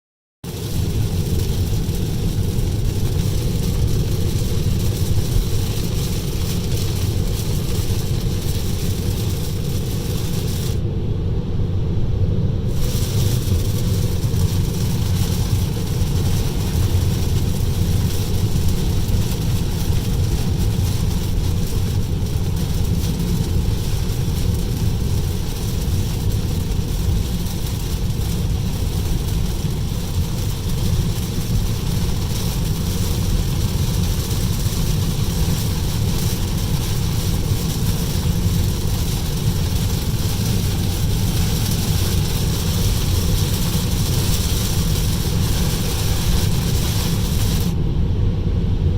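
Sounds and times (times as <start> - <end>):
rain on a car: 0.4 - 10.9, 12.7 - 47.8
low road rumble: 0.4 - 48.9
wet tyre hiss: 0.5 - 10.8, 12.7 - 47.8.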